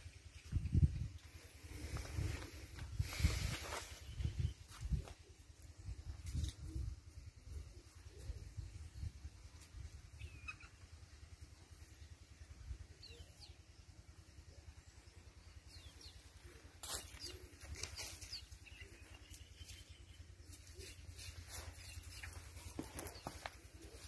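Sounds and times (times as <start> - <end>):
faint bird chirps: 3.6 - 24.0.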